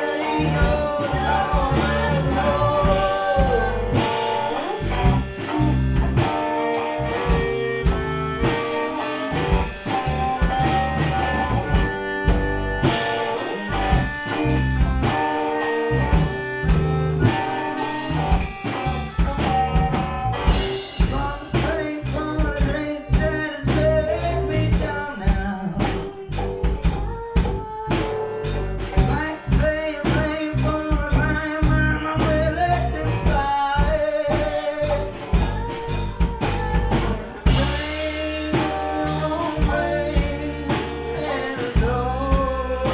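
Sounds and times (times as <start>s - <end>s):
accordion: 0.0s - 42.9s
bass guitar: 0.0s - 42.9s
drum kit beat: 0.0s - 42.9s
guitar: 0.0s - 42.9s.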